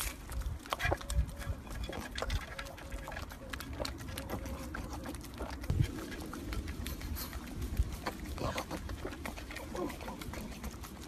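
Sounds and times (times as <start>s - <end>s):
wet mouth clicks: 0.0s - 11.0s.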